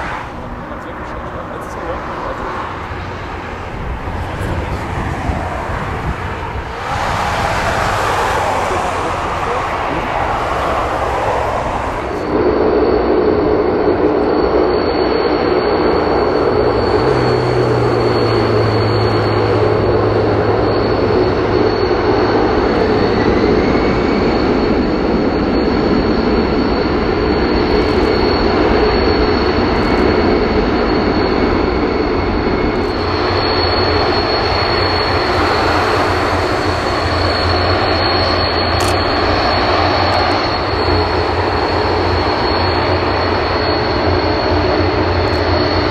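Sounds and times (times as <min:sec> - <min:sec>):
low hum: 0:00.0 - 0:45.9
turboprop engines droning: 0:00.0 - 0:45.9.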